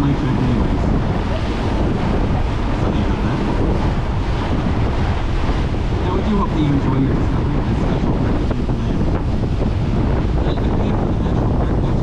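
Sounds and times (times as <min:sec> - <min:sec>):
boat engine rumble: 0:00.0 - 0:12.0
choppy water rushing: 0:00.0 - 0:12.0
wind buffeting microphone: 0:00.0 - 0:12.0.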